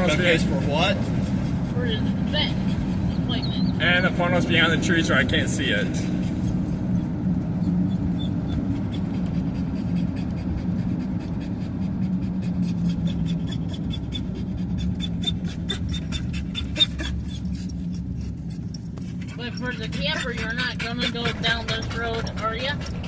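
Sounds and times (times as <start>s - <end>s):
engine and road hum: 0.0s - 23.0s.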